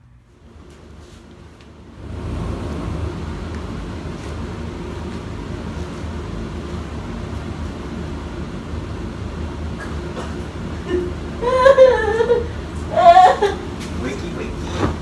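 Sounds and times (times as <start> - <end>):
machine humming and rushing: 0.0 - 15.0.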